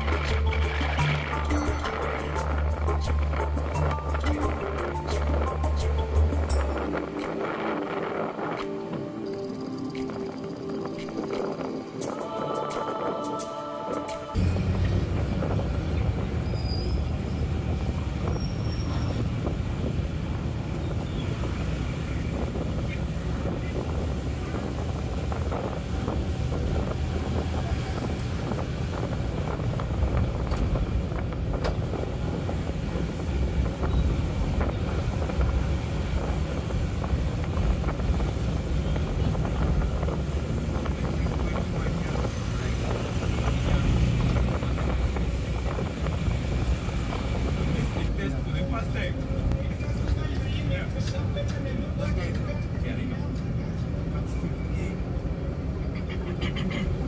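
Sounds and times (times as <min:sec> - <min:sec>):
car road and engine rumble: 0:00.0 - 0:57.0
traffic sound: 0:00.0 - 0:57.0.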